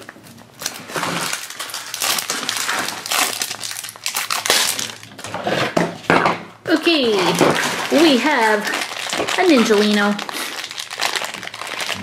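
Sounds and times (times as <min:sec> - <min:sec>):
plastic wrapper crinkling: 0:00.0 - 0:05.3, 0:06.8 - 0:12.0.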